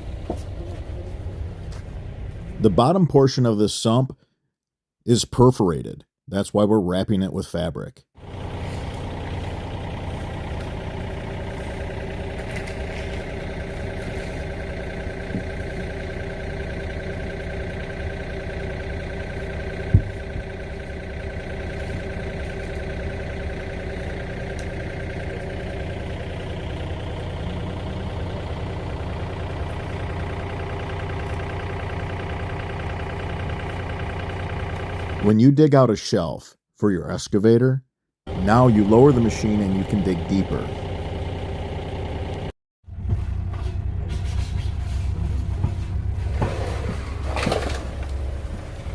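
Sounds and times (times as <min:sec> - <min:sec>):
diesel engine running: 0:00.0 - 0:02.9, 0:08.2 - 0:35.4, 0:38.3 - 0:48.9.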